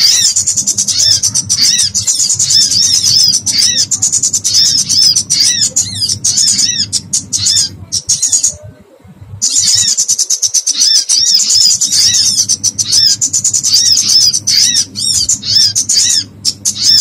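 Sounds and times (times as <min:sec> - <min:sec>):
low steady hum: 0:00.0 - 0:17.0
small birds distress calls: 0:00.0 - 0:17.0.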